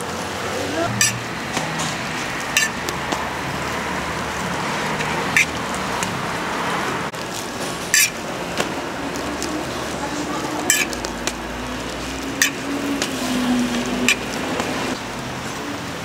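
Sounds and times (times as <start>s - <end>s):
griddle sizzling: 0.0s - 16.0s.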